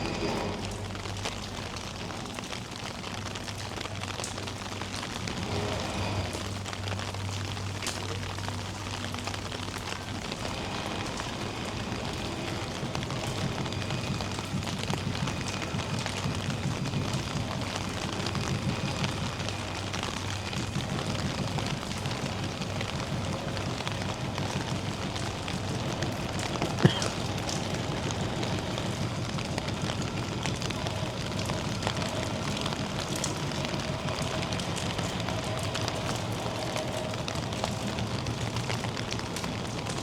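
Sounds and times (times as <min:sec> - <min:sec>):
low hum: 0:00.0 - 0:40.0
rain falling: 0:00.0 - 0:40.0.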